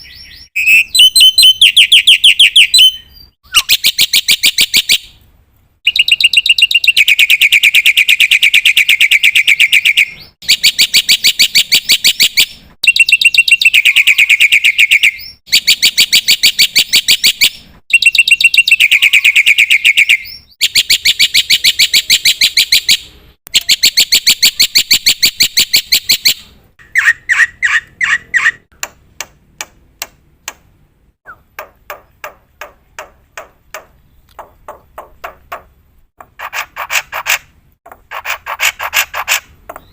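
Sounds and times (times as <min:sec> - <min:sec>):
bird chirps: 0:00.0 - 0:05.2, 0:05.8 - 0:28.7, 0:31.2 - 0:35.7, 0:38.3 - 0:39.9.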